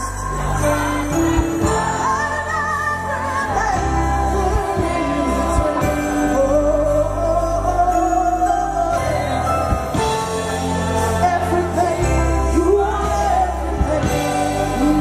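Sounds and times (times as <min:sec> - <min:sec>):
woman singing into a microphone: 0:00.0 - 0:09.5, 0:10.7 - 0:15.0
live band music: 0:00.0 - 0:15.0.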